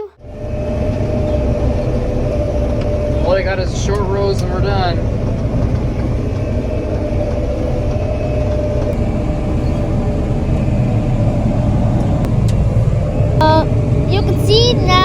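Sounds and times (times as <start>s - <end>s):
machinery engine rumbling: 0.0s - 15.0s.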